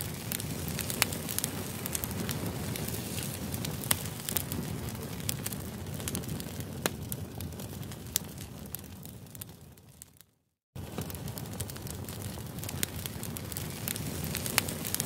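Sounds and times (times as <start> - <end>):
fire burning with low rush: 0.0 - 15.0
wood crackling and popping: 0.0 - 15.0.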